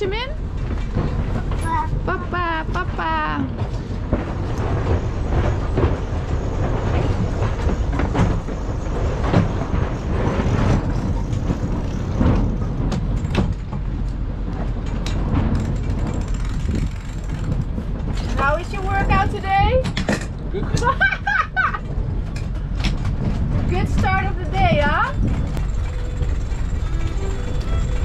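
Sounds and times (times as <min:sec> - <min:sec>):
wind and water rumble: 0:00.0 - 0:28.0.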